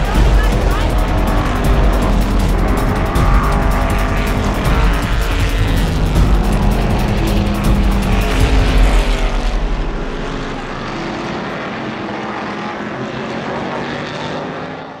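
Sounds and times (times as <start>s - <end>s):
racing car engine rumbling: 0.0s - 15.0s.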